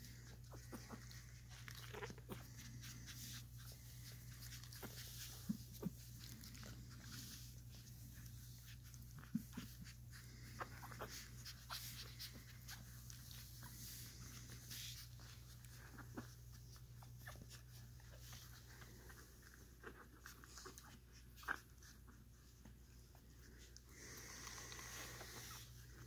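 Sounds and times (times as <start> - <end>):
low steady hum: 0.0 - 26.0
puppies squeaking and suckling: 0.0 - 26.0.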